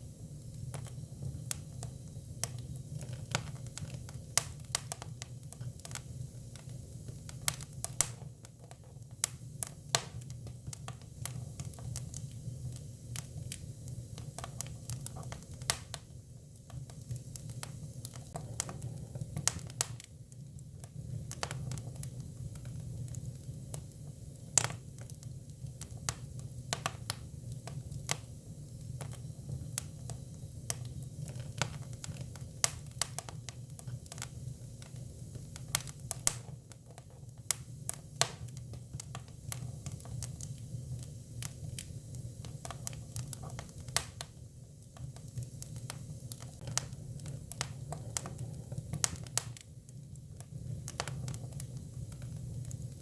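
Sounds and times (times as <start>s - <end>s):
fire low rumble: 0.0s - 53.0s
firewood crackling and popping: 0.3s - 53.0s.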